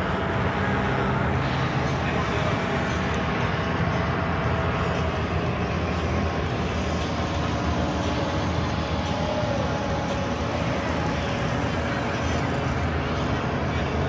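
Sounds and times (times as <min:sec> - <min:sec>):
paramotor engines droning overhead: 0:00.0 - 0:14.0.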